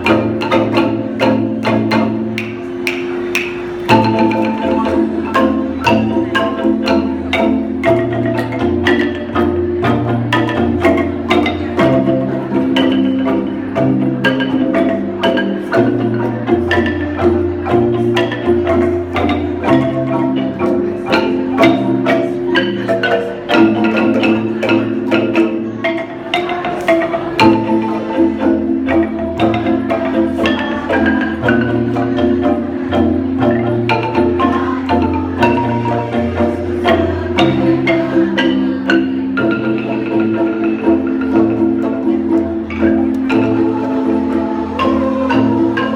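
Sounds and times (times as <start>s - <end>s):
wooden bars struck with mallets: 0.0s - 45.9s.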